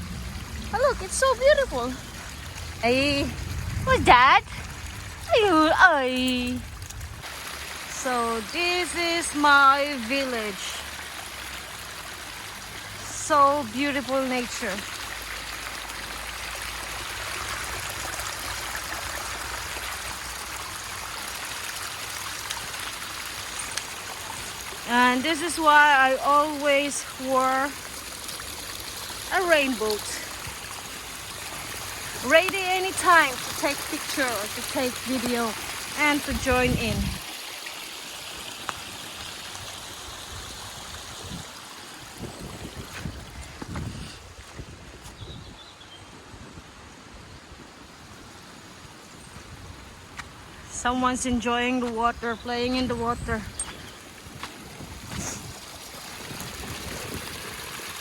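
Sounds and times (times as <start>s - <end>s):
stream of rushing water: 0.0s - 58.0s.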